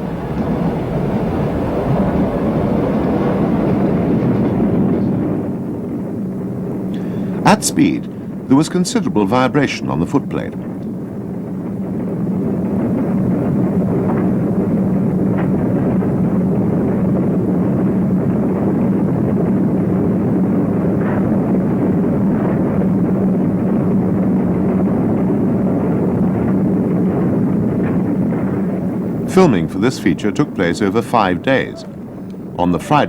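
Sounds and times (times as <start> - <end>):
steam locomotive running: 0.0 - 24.3, 25.4 - 33.0.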